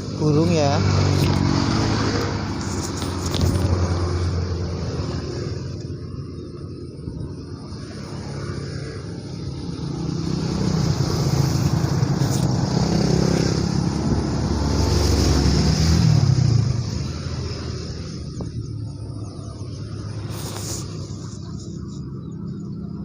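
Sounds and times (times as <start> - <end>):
vehicle engine passing by: 0.0 - 23.0.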